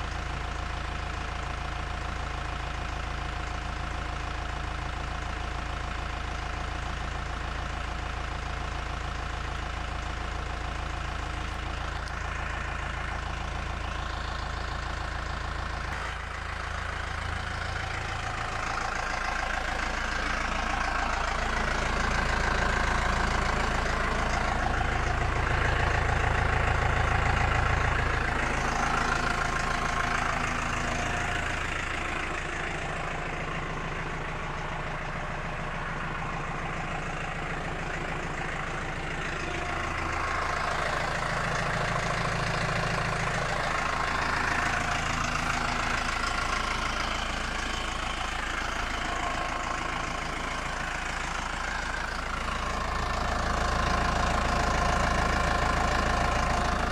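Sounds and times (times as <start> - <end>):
tractor diesel engine idling: 0.0 - 56.9.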